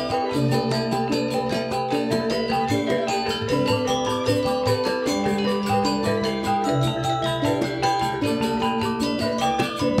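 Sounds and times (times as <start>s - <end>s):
hand drum: 0.0s - 10.0s
metallophones ringing: 0.0s - 10.0s.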